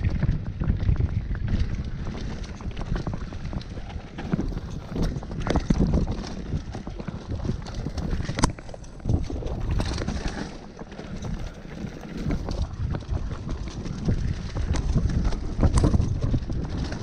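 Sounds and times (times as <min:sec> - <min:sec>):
bike rattling and clicking: 0:00.0 - 0:17.0
bike tyres rumbling over dirt: 0:00.0 - 0:17.0
wind buffeting microphone: 0:00.0 - 0:17.0.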